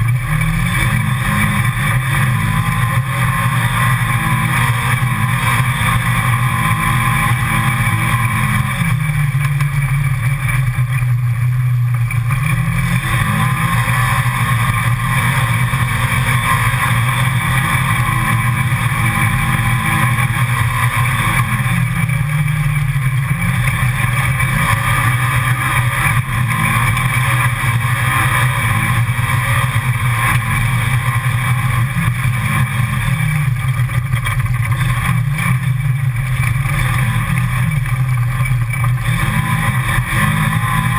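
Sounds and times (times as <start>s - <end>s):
utility vehicle engine running: 0.0s - 40.9s.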